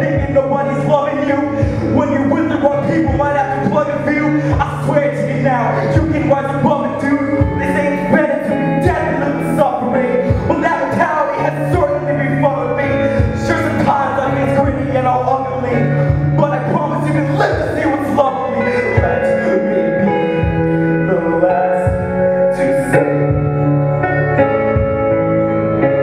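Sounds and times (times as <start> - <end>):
man singing into microphone: 0.0 - 24.1
music with steady beat and bass: 0.0 - 26.0.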